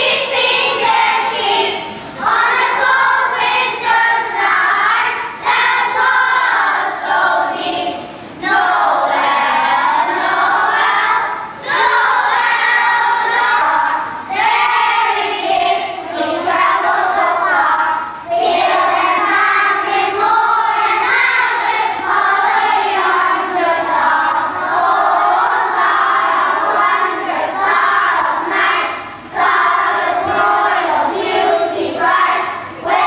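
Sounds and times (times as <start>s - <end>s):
children singing together: 0.0s - 33.0s.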